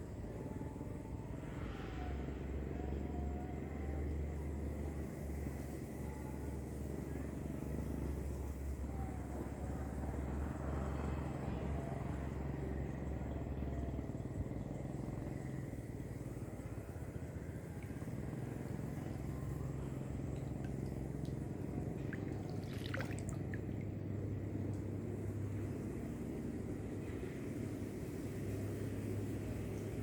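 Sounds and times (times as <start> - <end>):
low engine drone: 0.0 - 30.0.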